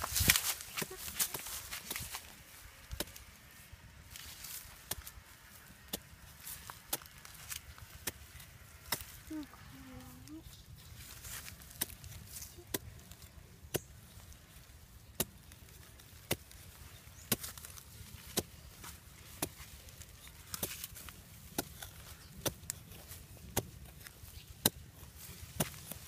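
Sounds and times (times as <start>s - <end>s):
knife chopping into dry soil: 0.0s - 3.4s, 4.1s - 9.3s, 11.2s - 26.0s.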